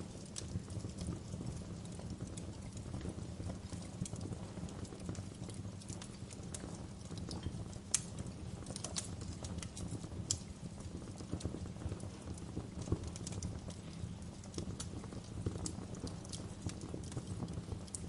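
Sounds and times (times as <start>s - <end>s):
low rumble of flames: 0.0s - 18.0s
wood fire crackling: 0.0s - 18.0s
sharp snaps and pops: 0.2s - 18.0s.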